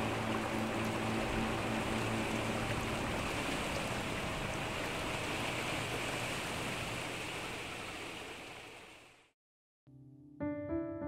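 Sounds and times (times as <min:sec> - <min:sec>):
distant motorboat engine hum: 0:00.0 - 0:09.3
rushing river water: 0:00.0 - 0:09.3.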